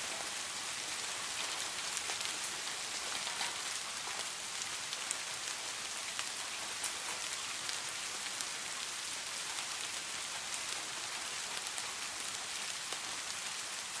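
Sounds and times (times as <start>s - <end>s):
rain falling in a forest: 0.0s - 14.0s
raindrops pattering: 0.0s - 14.0s.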